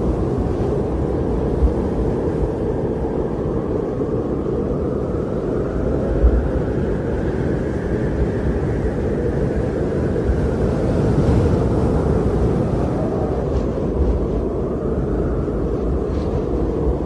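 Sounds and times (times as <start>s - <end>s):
wind rushing: 0.0s - 17.0s.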